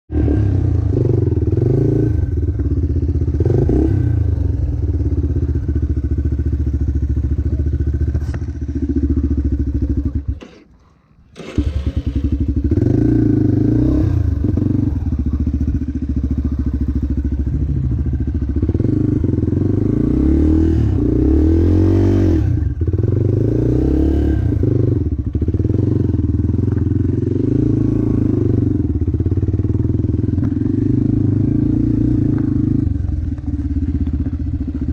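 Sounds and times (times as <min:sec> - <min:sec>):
motocross bike engine revving: 0:00.1 - 0:10.7, 0:11.3 - 0:34.9.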